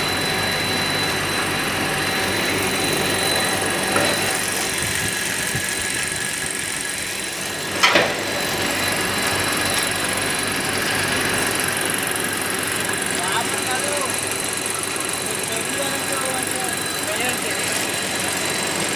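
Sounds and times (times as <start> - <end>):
constant high whine: 0.0 - 18.9
machinery hum: 0.0 - 18.9.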